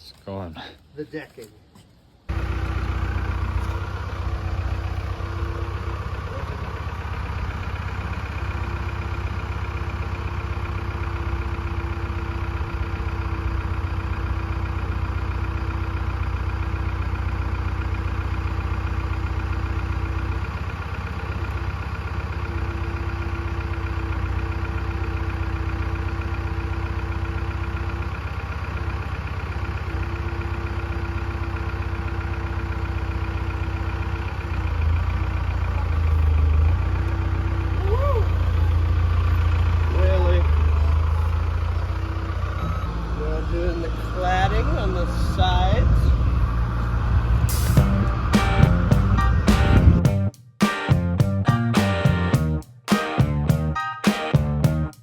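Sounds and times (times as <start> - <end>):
engine idling: 2.3 - 55.0
engine whine: 2.3 - 55.0.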